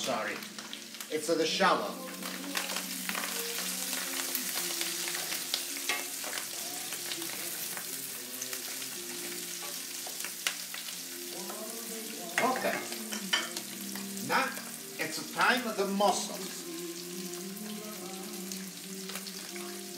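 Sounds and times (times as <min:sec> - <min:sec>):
vegetables sizzling in hot oil: 0:00.0 - 0:19.9.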